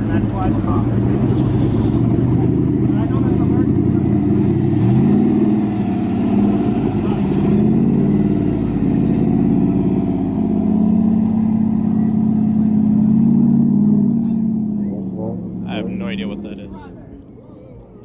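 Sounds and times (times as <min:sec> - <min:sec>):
car engine revving: 0:00.0 - 0:17.3.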